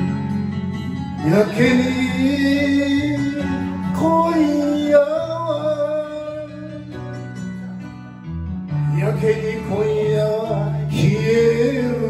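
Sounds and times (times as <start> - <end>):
man singing a ballad: 0.0 - 7.3, 8.7 - 12.0
karaoke backing track with guitar: 0.0 - 12.0.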